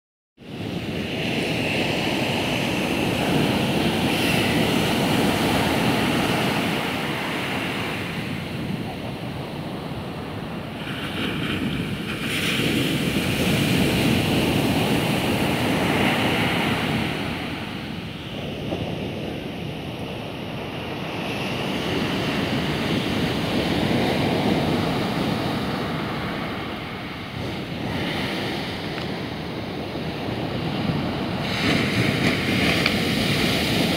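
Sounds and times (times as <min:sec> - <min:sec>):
ocean surf breaking on beach: 0:00.4 - 0:33.9.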